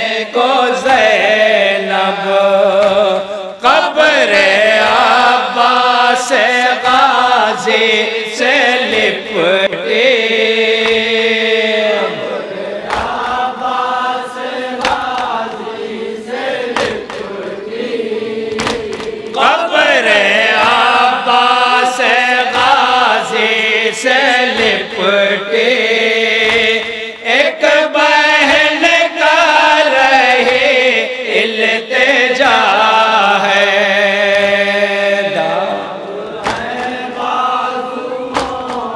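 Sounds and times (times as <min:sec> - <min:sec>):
men chanting in chorus: 0:00.0 - 0:38.9.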